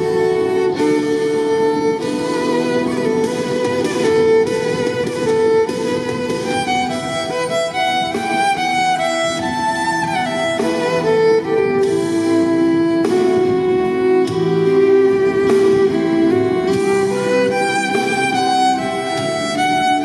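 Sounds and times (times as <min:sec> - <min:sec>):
violin melody over loudspeaker: 0:00.0 - 0:20.0.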